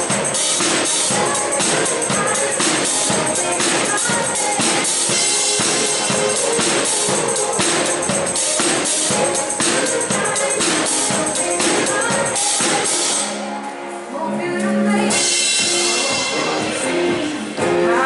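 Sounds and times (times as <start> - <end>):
drums and percussion beat: 0.0 - 13.6, 15.1 - 18.0
live pop band playing: 0.0 - 18.0.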